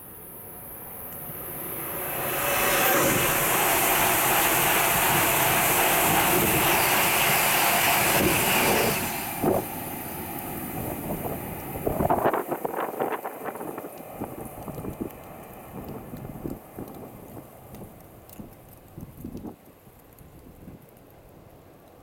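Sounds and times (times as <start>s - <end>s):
high-speed train passing: 0.0s - 18.0s
wind buffeting microphone: 1.9s - 20.9s.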